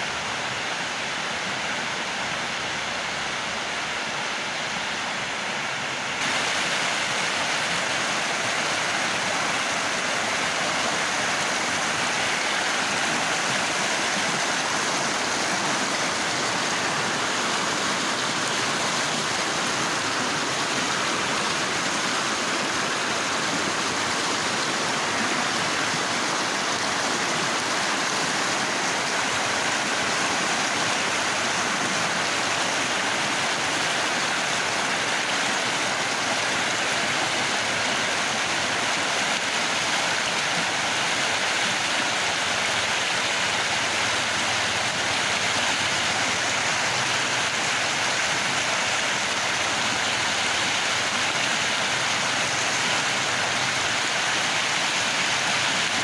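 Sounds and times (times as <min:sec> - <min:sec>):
flooded river rushing: 0:00.0 - 0:56.0.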